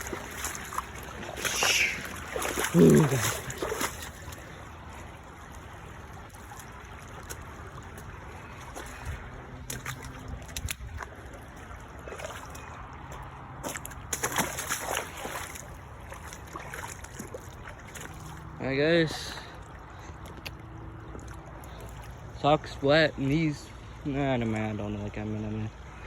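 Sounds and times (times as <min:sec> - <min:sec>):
floodwater running and trickling: 0:00.0 - 0:26.0
water splashes: 0:00.0 - 0:26.0.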